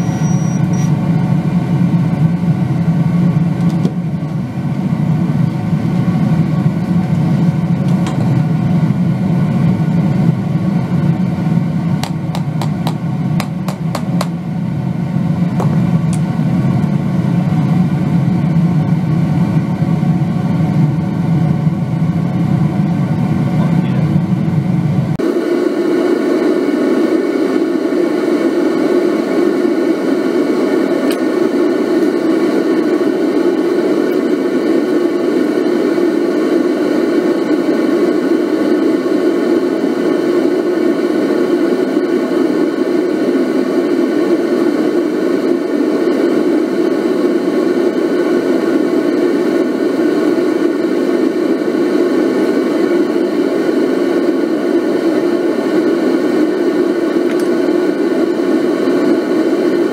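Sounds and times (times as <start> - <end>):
running equipment roar: 0.0 - 59.9.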